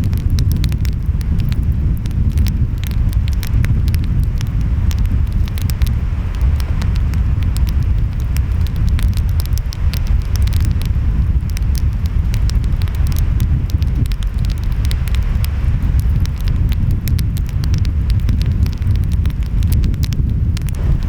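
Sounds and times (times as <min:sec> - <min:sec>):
wind: 0:00.0 - 0:21.0
wood fire crackling and popping: 0:00.0 - 0:21.0.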